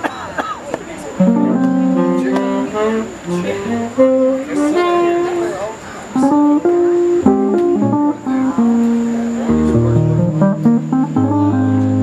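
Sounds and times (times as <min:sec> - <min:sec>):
held bass notes: 0:01.2 - 0:12.0
picked guitar notes: 0:01.2 - 0:12.0.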